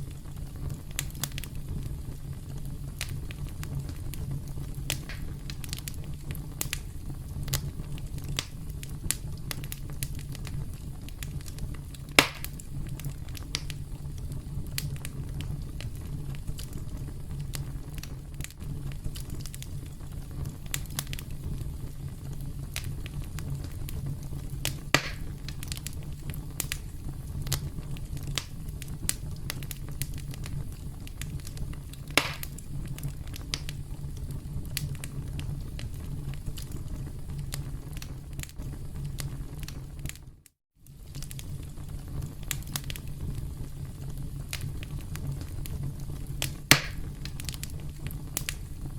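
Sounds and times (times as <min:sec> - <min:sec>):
campfire crackling: 0:00.0 - 0:48.9
loud fire pops and snaps: 0:00.0 - 0:48.9.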